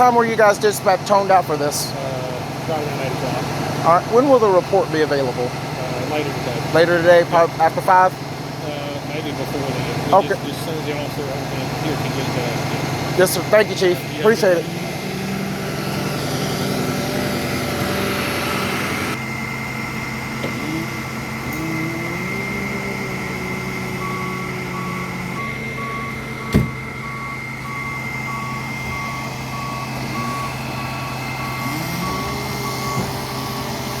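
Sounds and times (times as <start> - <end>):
fire truck engine revving: 0.0 - 34.0
reversing alarm beeping: 0.0 - 34.0.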